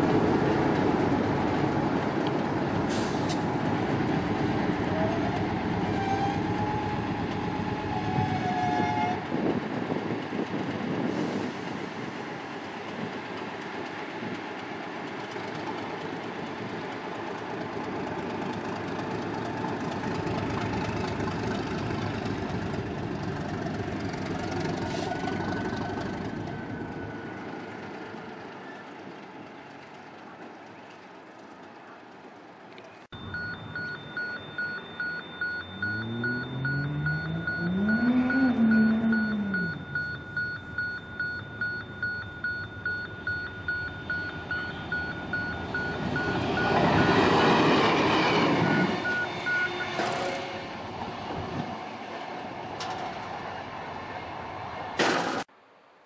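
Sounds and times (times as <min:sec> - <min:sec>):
diesel locomotive engine and wheels: 0:00.0 - 0:56.0.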